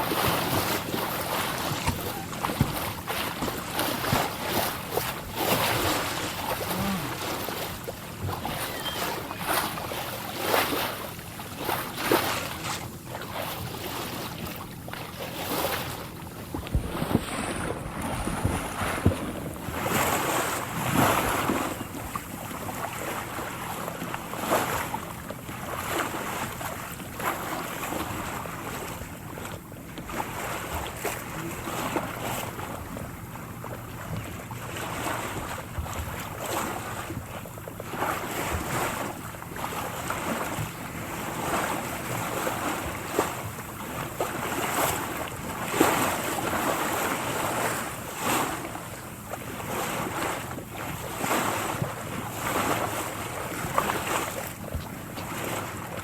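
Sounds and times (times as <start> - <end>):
water sloshing and lapping: 0.0 - 56.0.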